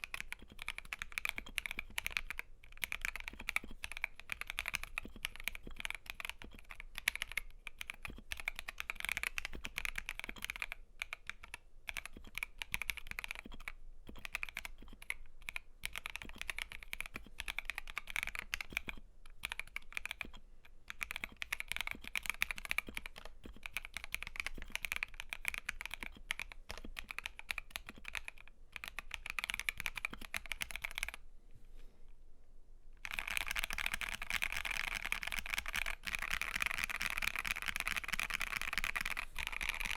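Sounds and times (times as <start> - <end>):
fast typing on mechanical keyboard: 0.0 - 31.2, 33.0 - 39.9.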